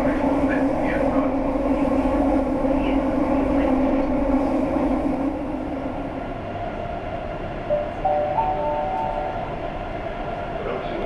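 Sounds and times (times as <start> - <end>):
metro train rumble and hum: 0.0 - 11.0.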